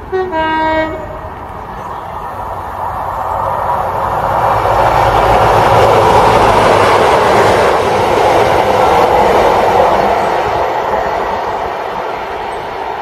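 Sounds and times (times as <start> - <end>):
diesel train engine rumble: 0.0 - 13.0.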